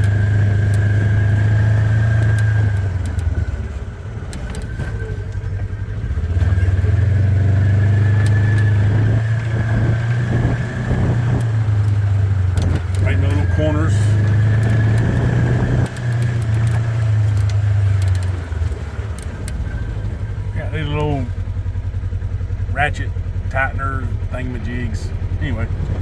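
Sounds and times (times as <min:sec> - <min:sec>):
light rattling clicks: 0:00.0 - 0:07.0, 0:07.9 - 0:24.4
atv engine running: 0:00.0 - 0:26.0.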